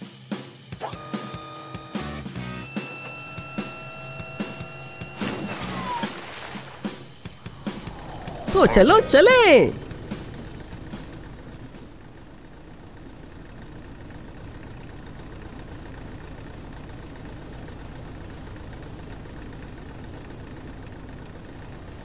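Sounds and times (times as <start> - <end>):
low ship engine rumble: 3.0 - 22.0.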